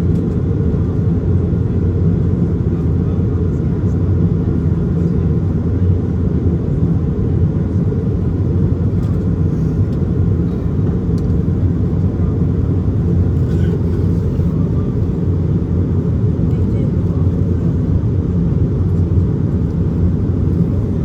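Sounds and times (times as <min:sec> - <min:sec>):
airplane cabin rumble in flight: 0:00.0 - 0:21.0
jet engines droning: 0:00.0 - 0:21.0.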